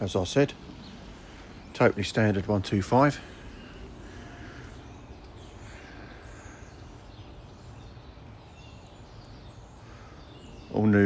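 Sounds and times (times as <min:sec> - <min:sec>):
birds chirping: 0:00.0 - 0:11.0
low ambient rumble: 0:00.0 - 0:11.0.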